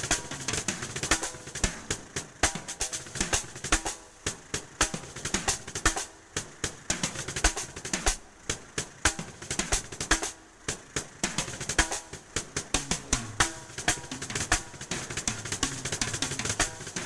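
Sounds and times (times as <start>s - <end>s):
snare and bass drum hits: 0.0s - 17.0s.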